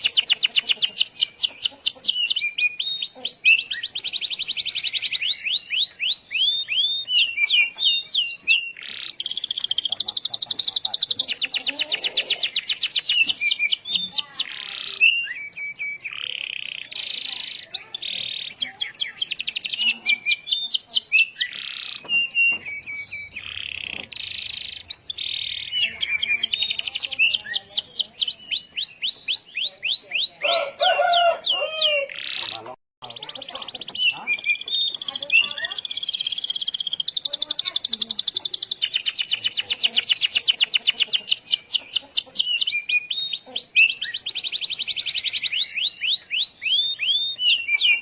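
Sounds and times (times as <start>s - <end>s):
canary singing trills: 0.0s - 48.0s.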